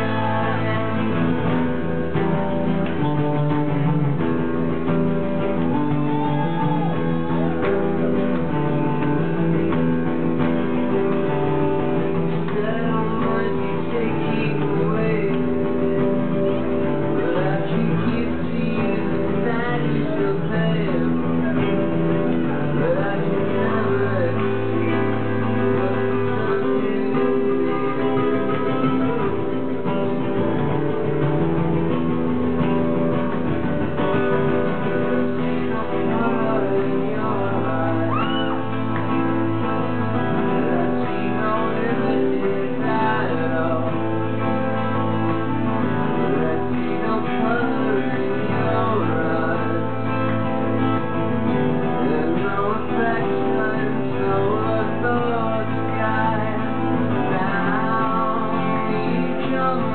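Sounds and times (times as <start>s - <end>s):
man singing into a microphone: 0.0s - 31.2s, 34.0s - 59.9s
acoustic guitar strumming: 0.0s - 59.9s
second guitar playing: 0.0s - 59.9s.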